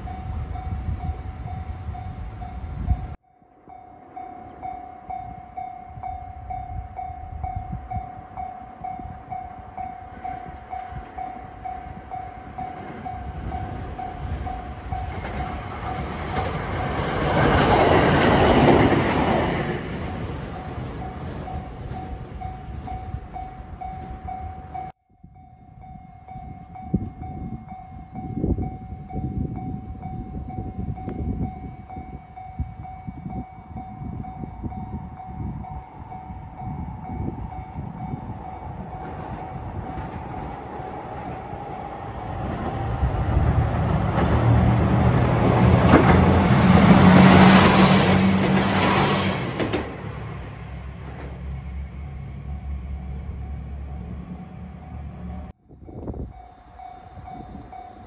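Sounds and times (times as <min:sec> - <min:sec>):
train passing: 0:00.0 - 0:25.0, 0:25.7 - 0:58.0.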